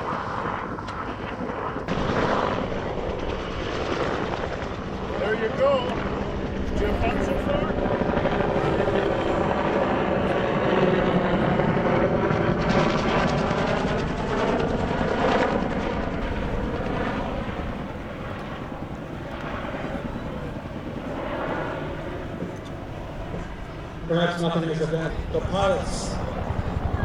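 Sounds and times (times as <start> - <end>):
helicopter flying by: 0.0 - 27.0.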